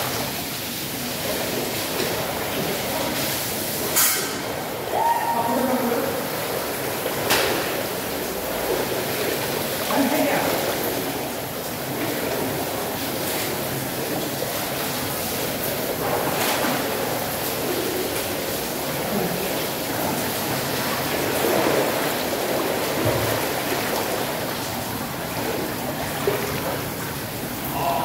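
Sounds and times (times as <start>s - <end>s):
jacuzzi jets bubbling water: 0.0s - 28.0s.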